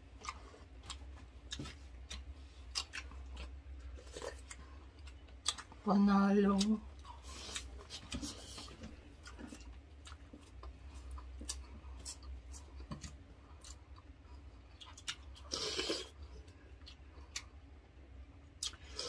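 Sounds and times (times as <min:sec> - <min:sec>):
chewing and eating: 0:00.0 - 0:19.0
steady low hum: 0:00.0 - 0:19.0.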